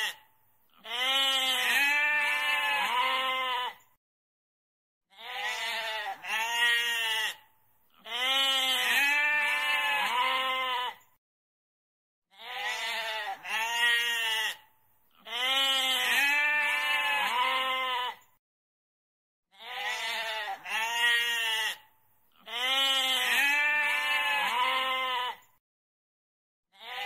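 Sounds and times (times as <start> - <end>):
goat bleating: 0.0 - 3.9, 5.1 - 11.1, 12.3 - 18.3, 19.5 - 25.5, 26.8 - 27.0.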